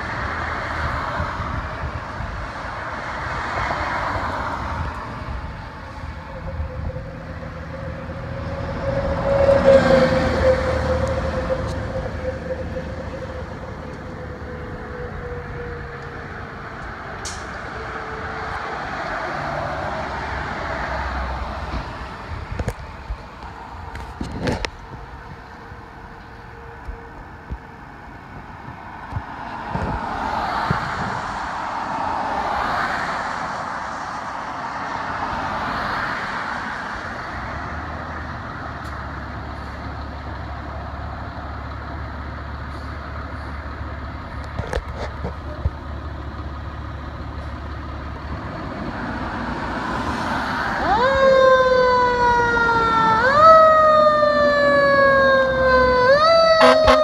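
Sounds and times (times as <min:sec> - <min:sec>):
fire engine siren wailing: 0:00.0 - 0:57.0
traffic and engine noise: 0:00.0 - 0:57.0.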